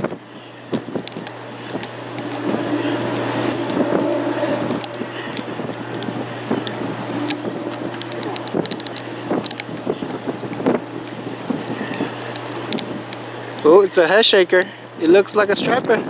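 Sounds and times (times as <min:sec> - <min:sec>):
humming tone: 0:00.0 - 0:13.6
steady low hum: 0:00.0 - 0:15.3
wind buffeting microphone: 0:00.0 - 0:16.0.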